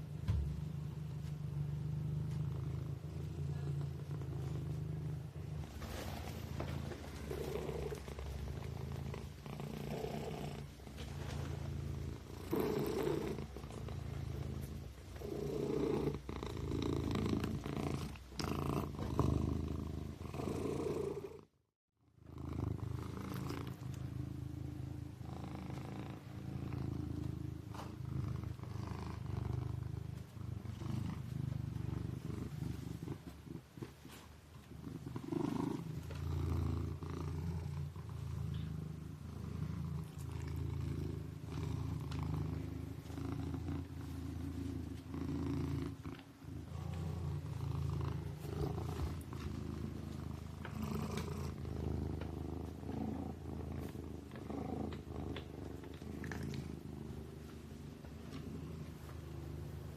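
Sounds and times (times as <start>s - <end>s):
kitten purring: 0.0s - 21.6s, 22.2s - 59.9s.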